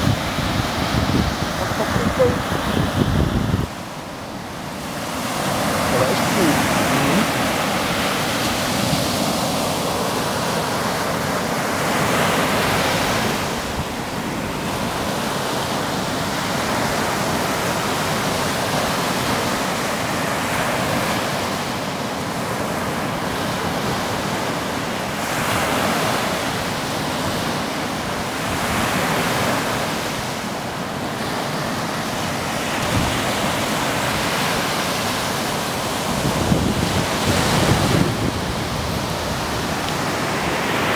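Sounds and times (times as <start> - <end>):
surf breaking on beach: 0.0 - 40.9.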